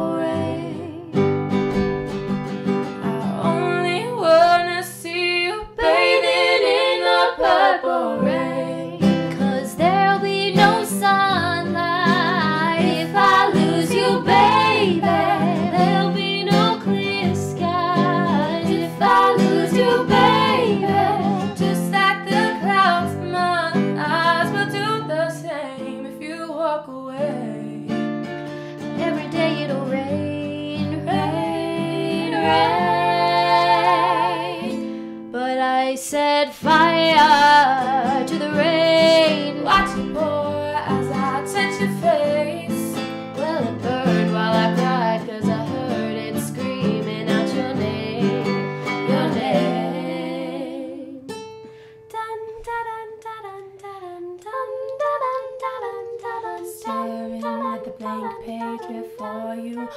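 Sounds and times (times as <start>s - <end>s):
woman singing: 0.0s - 1.3s, 3.0s - 51.3s, 52.1s - 59.9s
guitar accompaniment: 0.0s - 35.4s, 36.5s - 53.2s.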